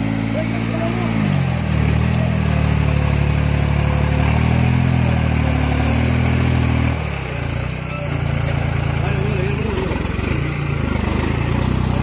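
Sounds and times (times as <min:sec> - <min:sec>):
tractor diesel engine pulling: 0:00.0 - 0:12.0.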